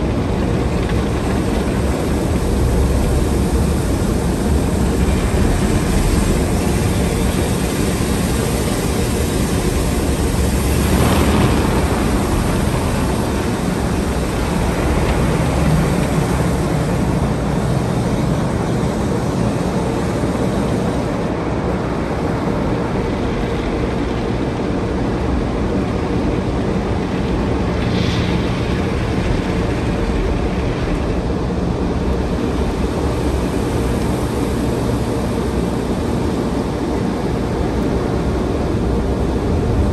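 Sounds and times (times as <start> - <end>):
car wash machinery rushing: 0.0 - 39.9.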